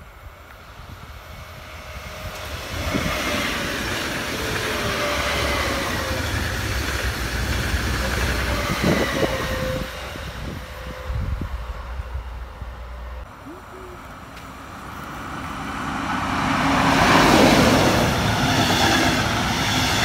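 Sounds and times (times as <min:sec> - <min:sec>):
train wheels on rails: 0:00.0 - 0:13.2, 0:14.2 - 0:20.0.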